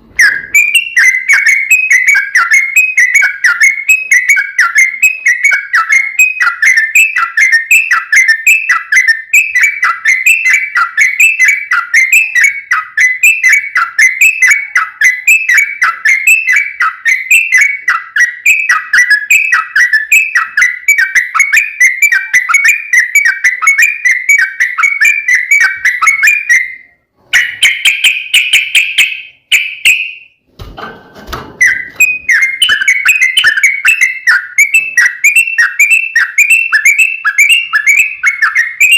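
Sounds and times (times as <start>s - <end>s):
bird singing whistled chirps: 0.1s - 30.4s, 31.6s - 38.9s
bird call: 0.2s - 30.3s, 31.6s - 38.9s.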